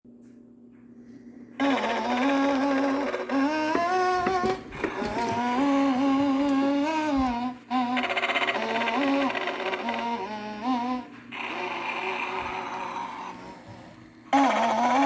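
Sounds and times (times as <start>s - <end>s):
voice humming a tune: 1.6s - 15.0s.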